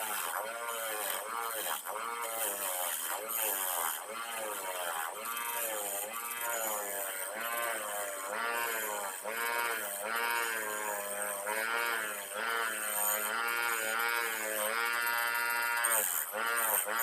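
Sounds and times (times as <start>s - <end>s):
bench grinder motor hum: 0.0s - 17.0s.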